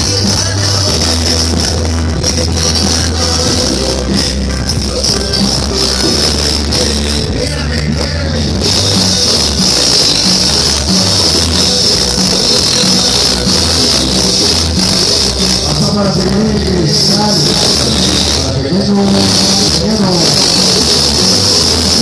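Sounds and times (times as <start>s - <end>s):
loud dance music with heavy bass: 0.0s - 22.0s.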